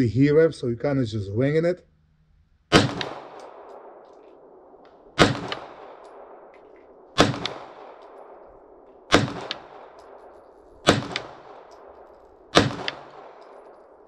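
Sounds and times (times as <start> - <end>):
pistol shots with echo: 2.7 - 14.0.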